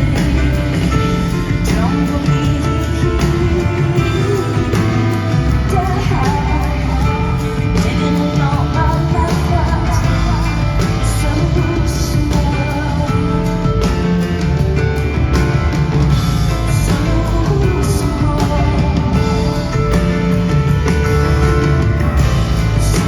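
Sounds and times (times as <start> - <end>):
woman singing: 0.0 - 20.8, 22.2 - 23.0
live rock band: 0.0 - 23.0.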